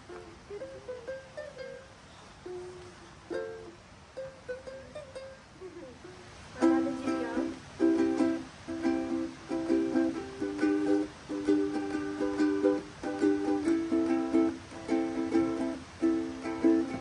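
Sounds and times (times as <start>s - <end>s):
ukulele strumming: 0.0s - 17.0s.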